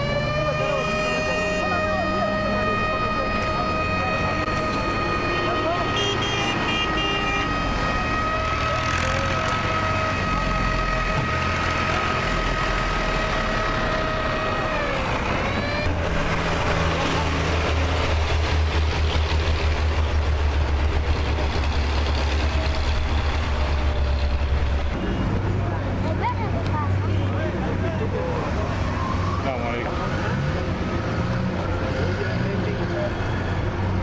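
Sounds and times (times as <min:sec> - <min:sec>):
vehicle engine whining: 0:00.0 - 0:34.0.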